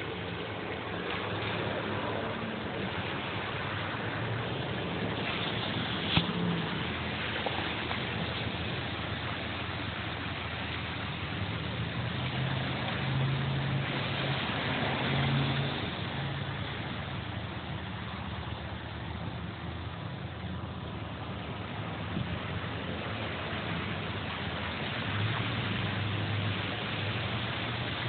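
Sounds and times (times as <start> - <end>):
cars passing: 0.0 - 28.0
low engine hum: 0.0 - 28.0
steady traffic hiss: 0.0 - 28.0.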